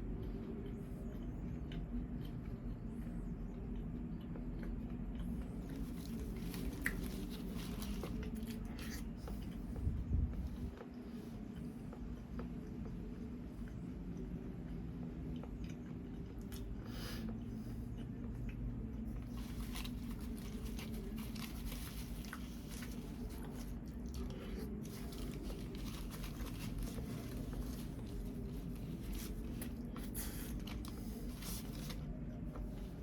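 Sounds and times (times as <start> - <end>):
steady low hum: 0.0 - 33.0
wet chewing and biting: 0.0 - 33.0.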